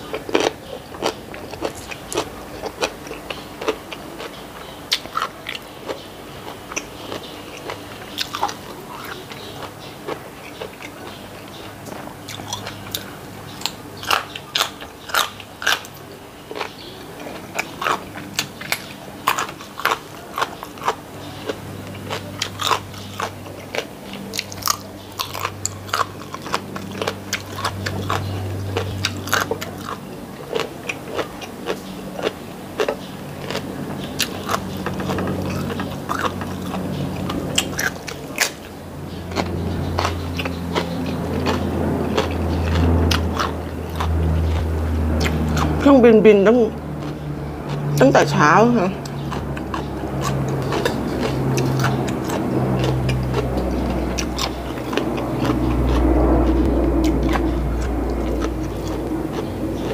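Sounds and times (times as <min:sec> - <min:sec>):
crisp crunching and chewing: 0:00.0 - 0:59.9
low background hum: 0:00.0 - 0:59.9.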